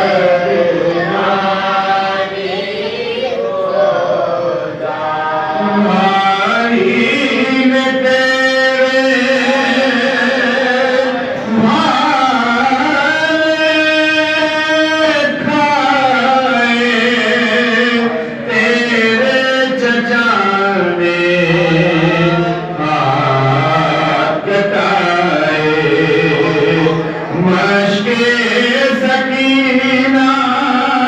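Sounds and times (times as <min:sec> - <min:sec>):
man chanting a lament: 0:00.0 - 0:31.0.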